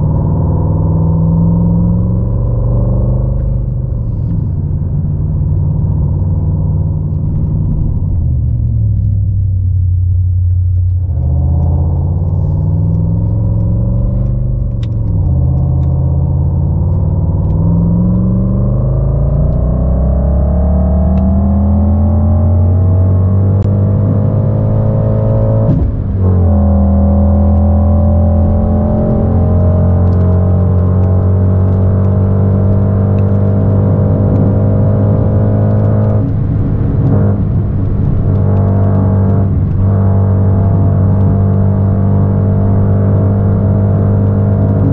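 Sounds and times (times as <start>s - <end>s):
simulated car engine revving: 0.0s - 9.2s, 10.7s - 44.9s.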